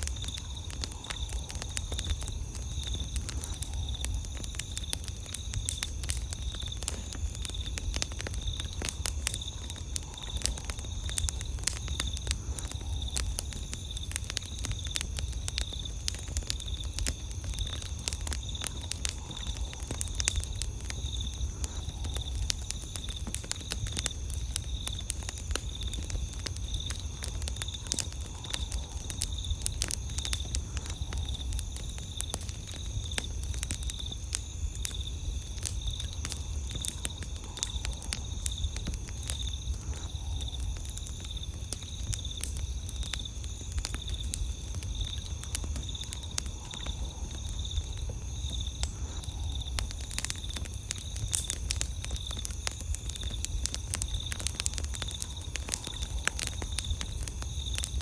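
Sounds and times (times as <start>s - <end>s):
campfire crackling: 0.0s - 58.0s
night insects trilling: 0.0s - 58.0s.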